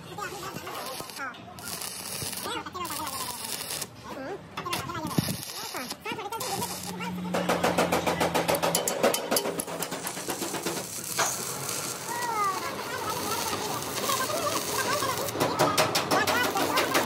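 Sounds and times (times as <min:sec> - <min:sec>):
welding arc crackling: 0:00.0 - 0:04.0, 0:04.7 - 0:17.0.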